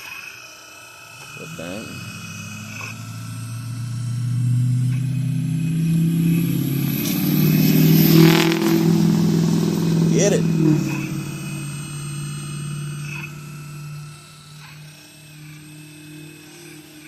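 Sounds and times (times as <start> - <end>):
hydraulic pump motor humming: 1.2 - 17.0.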